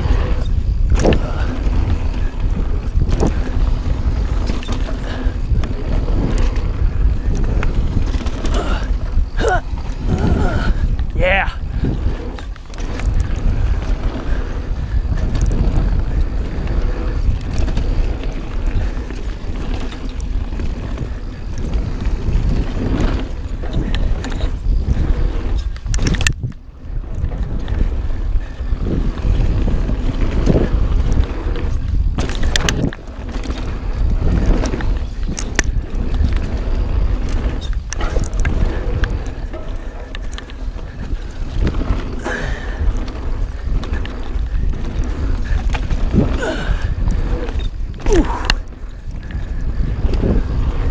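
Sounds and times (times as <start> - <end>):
bike clicks and rattles: 0.0 - 50.9
tyres rumbling over dirt: 0.0 - 50.9
wind on microphone: 0.0 - 50.9.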